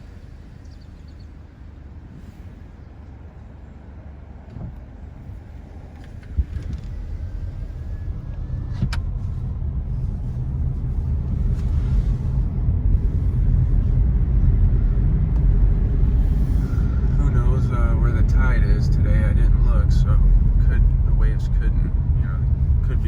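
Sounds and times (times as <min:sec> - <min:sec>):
car engine accelerating: 0:00.0 - 0:23.0
road rumble: 0:00.0 - 0:23.0.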